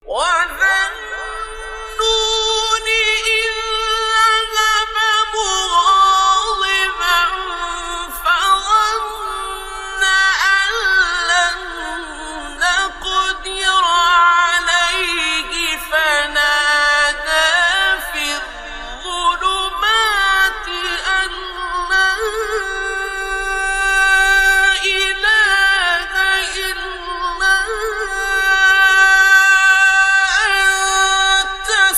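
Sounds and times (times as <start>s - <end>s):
man reciting melodically: 0.0s - 31.9s.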